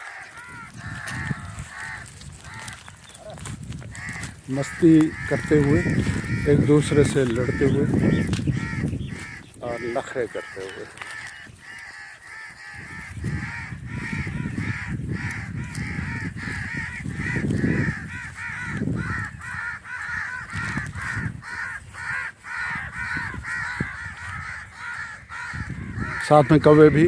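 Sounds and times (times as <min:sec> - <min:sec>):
crows cawing: 0:00.0 - 0:27.0.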